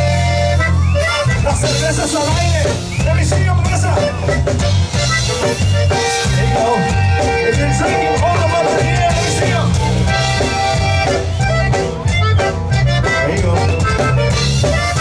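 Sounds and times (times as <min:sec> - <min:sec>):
accordion melody: 0:00.0 - 0:15.0
drums: 0:00.0 - 0:15.0
pulsing bass line: 0:00.0 - 0:15.0.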